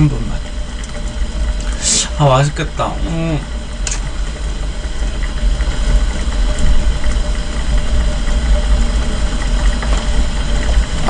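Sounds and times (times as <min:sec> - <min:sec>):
pot boiling with low rumble: 0:00.0 - 0:11.0.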